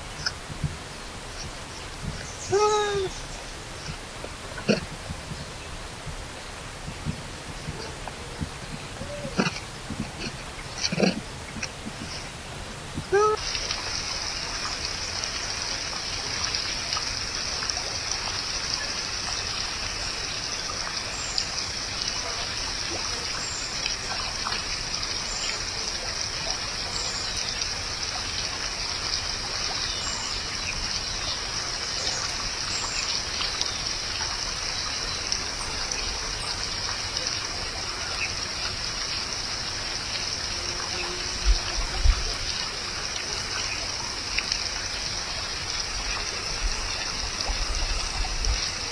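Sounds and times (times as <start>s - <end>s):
outdoor background hiss: 0.0s - 48.9s.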